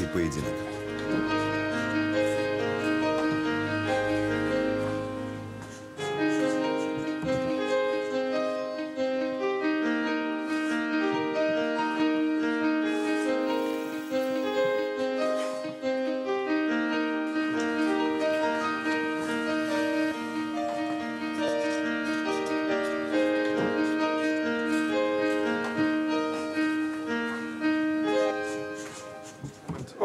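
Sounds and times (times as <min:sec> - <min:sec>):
calm piano music: 0:00.0 - 0:30.0.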